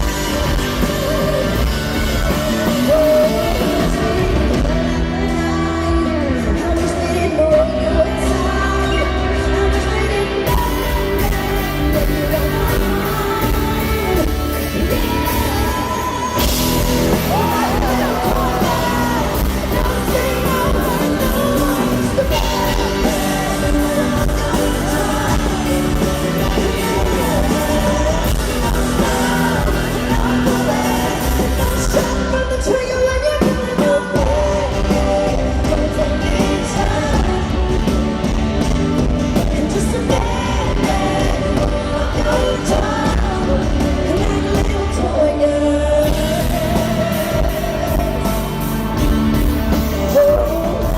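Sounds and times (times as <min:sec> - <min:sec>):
crowd yelling: 0:00.0 - 0:50.9
woman singing with band: 0:00.0 - 0:50.9.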